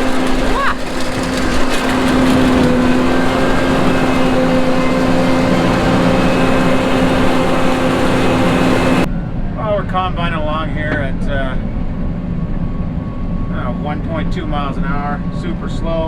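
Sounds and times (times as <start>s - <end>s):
combine harvester droning: 0.0s - 16.0s.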